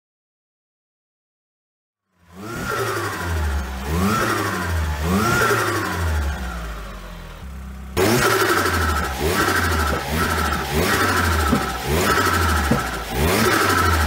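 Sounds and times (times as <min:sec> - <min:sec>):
car engine revving: 0:02.1 - 0:14.0.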